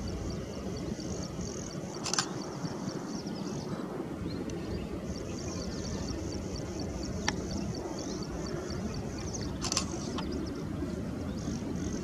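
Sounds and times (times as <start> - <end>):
airliner taxiing rumble: 0.0 - 12.0.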